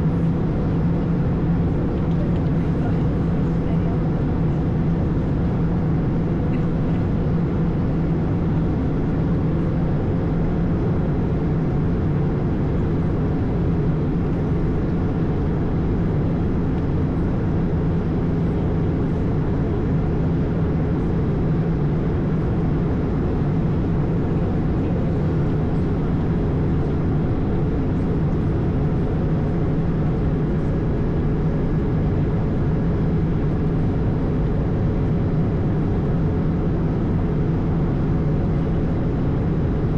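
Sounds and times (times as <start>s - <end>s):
turbofan engines droning: 0.0s - 39.9s.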